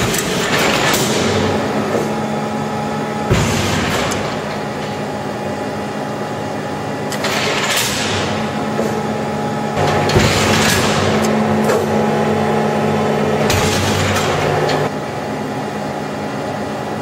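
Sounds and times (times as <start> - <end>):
hydraulic pump motor humming: 0.0 - 14.9.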